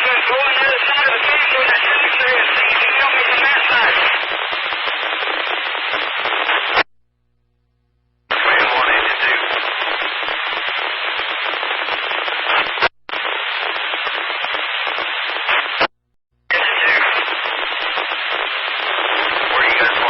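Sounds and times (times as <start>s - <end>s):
radio static hiss and crackle: 0.0s - 20.0s.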